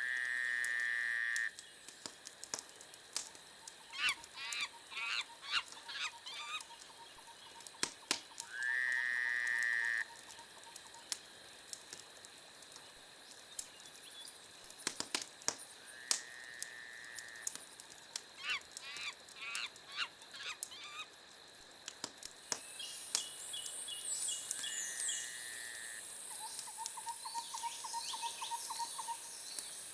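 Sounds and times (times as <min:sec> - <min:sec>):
wood fire crackling: 0:00.2 - 0:25.0.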